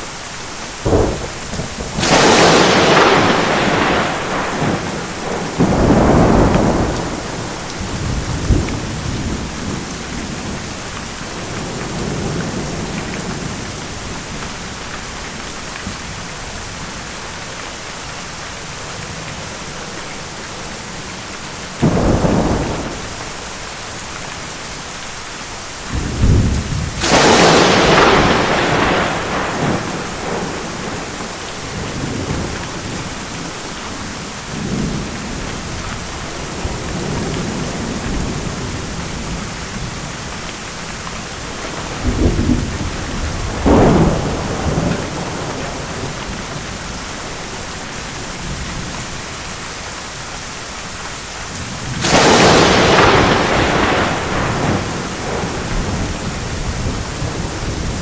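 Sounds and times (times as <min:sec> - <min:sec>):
heavy rain: 0:00.0 - 0:58.0
thunder rumbling and cracking: 0:00.8 - 0:17.6, 0:18.6 - 0:24.8, 0:25.8 - 0:49.7, 0:51.4 - 0:58.0.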